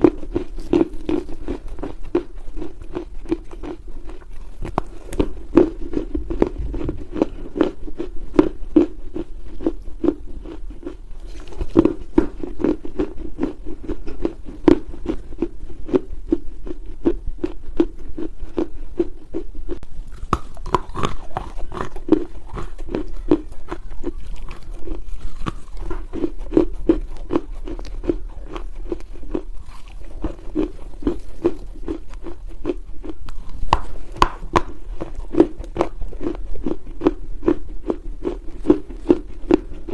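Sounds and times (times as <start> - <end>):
clay being chewed: 0.0 - 39.9.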